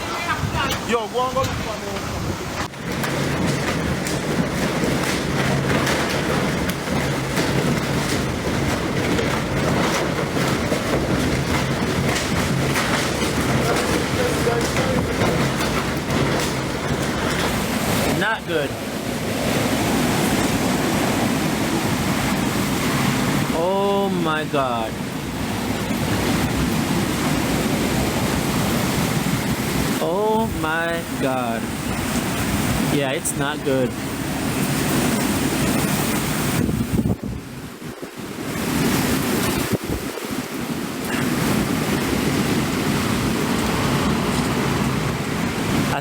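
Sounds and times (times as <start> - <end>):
hurricane-force wind blowing: 0.0 - 46.0.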